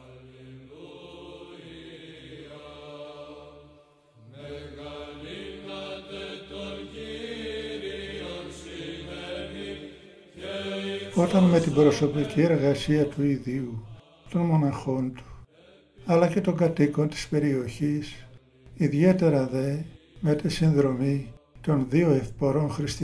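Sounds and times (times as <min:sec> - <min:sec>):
chant vocal melody: 0:00.0 - 0:23.0.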